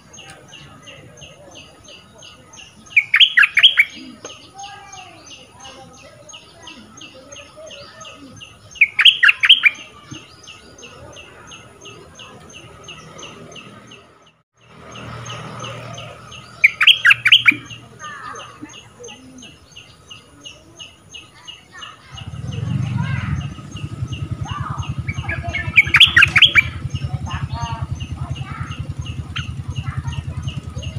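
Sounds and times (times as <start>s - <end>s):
bursts of sharp bird calls: 0.0s - 30.9s
songbird chirping: 0.0s - 30.9s.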